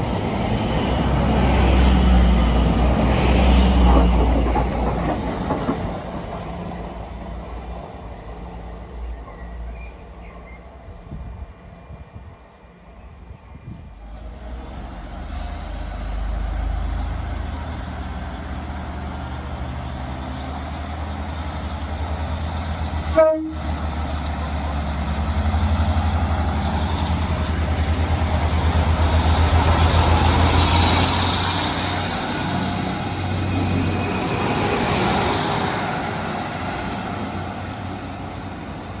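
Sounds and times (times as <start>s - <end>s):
train running past: 0.0s - 39.0s.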